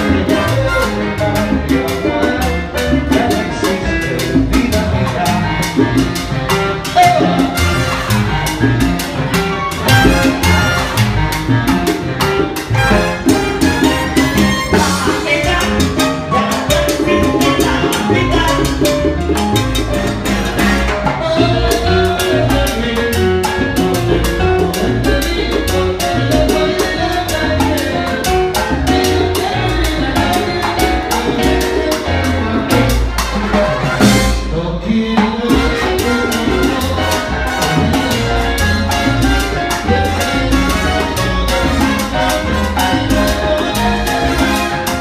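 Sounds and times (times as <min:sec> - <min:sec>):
trombone section: 0:00.0 - 0:27.0, 0:27.7 - 0:45.0
congas and timbales: 0:00.0 - 0:45.0.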